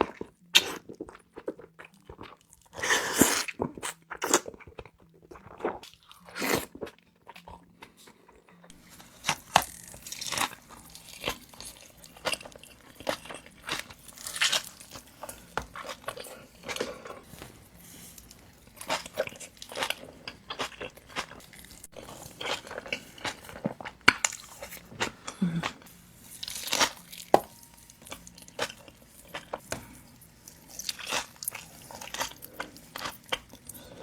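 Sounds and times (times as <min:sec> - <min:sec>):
wet chewing: 0:00.0 - 0:34.0.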